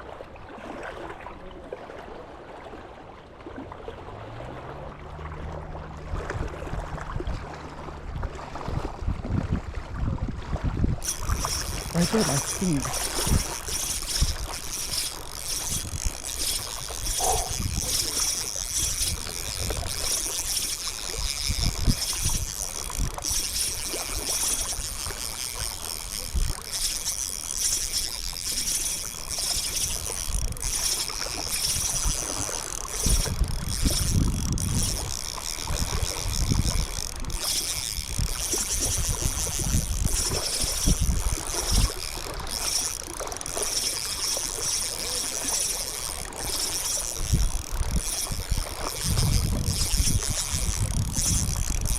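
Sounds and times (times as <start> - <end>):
wind buffeting microphone: 5.3 - 43.5, 45.9 - 51.9.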